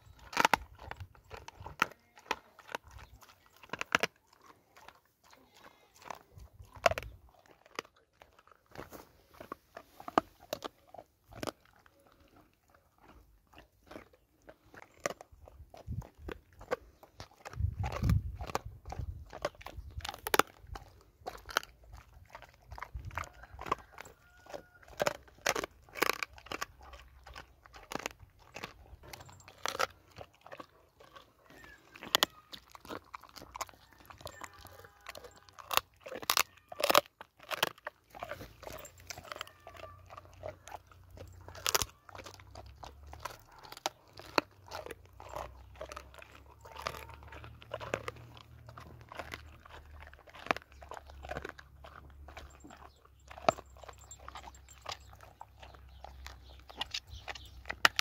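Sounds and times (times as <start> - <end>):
dog gnawing on bone: 0.0 - 58.0.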